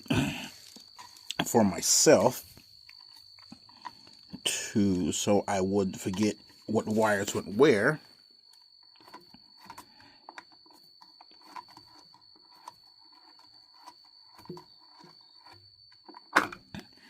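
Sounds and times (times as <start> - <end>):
thin high-pitched whine: 0.1 - 17.0.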